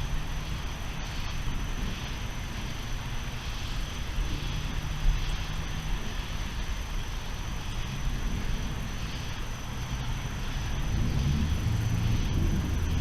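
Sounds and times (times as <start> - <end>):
low rumble: 0.0 - 13.0
rain: 0.0 - 13.0.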